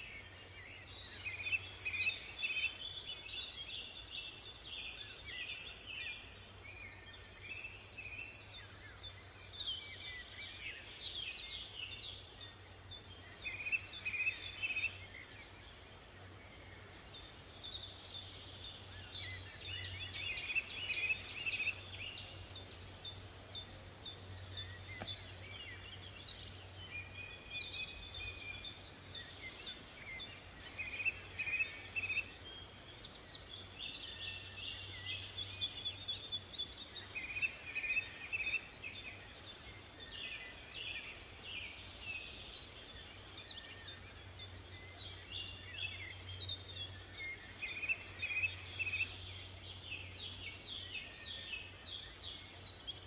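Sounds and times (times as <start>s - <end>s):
background hiss: 0.0s - 53.0s
songbirds chirping: 0.0s - 53.0s.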